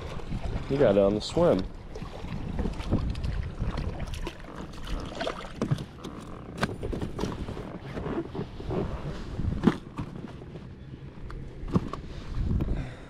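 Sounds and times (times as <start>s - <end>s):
knocks and clatters in boat: 0.0s - 12.8s
wind rumbling on microphone: 0.0s - 13.0s.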